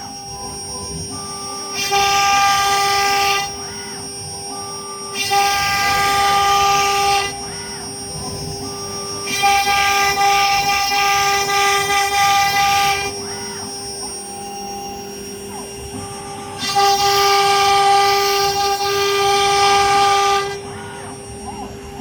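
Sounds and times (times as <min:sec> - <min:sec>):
wood router spindle whine: 0:00.0 - 0:22.0.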